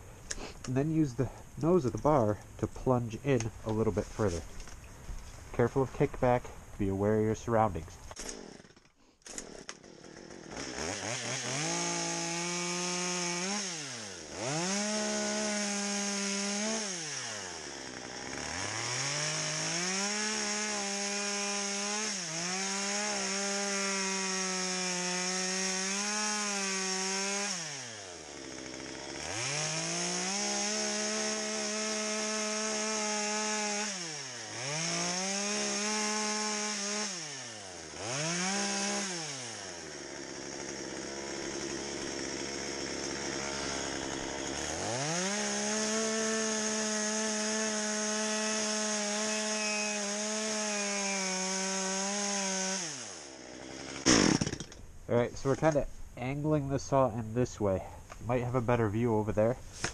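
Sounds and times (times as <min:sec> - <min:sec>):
chainsaw cutting log: 0:00.3 - 0:04.8, 0:05.6 - 0:55.9, 0:58.0 - 0:59.9.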